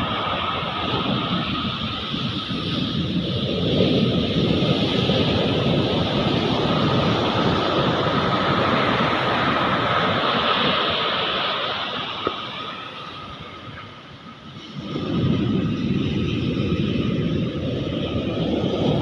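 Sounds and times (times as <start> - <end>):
ocean surf rushing onto beach: 0.0 - 19.0.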